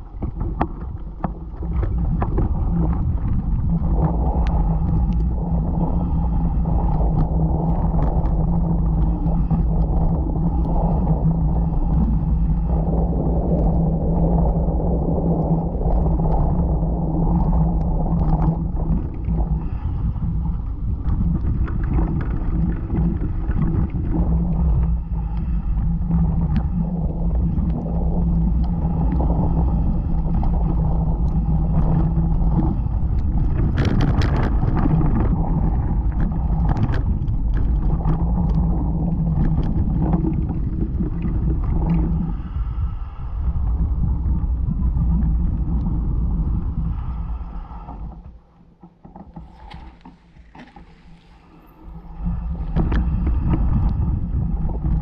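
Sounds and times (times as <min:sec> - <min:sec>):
bike tyres rumbling on gravel: 0:00.0 - 0:42.2, 0:49.2 - 0:55.0
low hum: 0:00.0 - 0:55.0.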